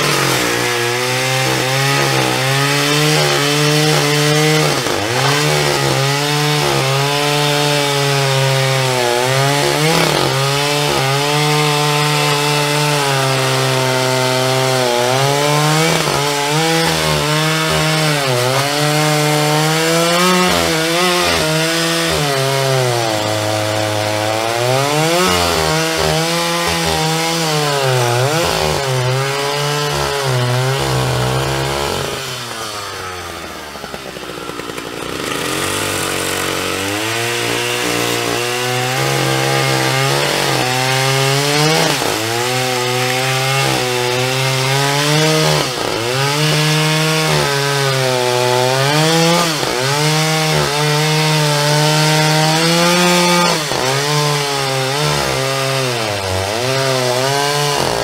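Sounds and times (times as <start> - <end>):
quad engine buzzing: 0.0 - 55.0.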